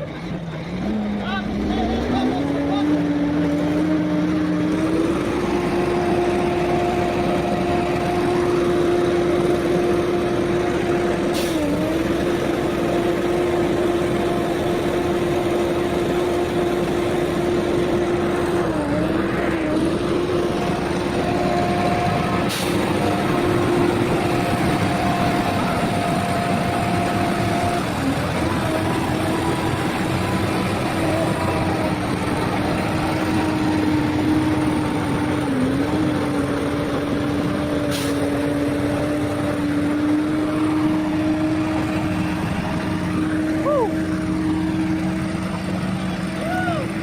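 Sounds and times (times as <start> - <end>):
dump truck drivetrain whine: 0.0 - 47.0.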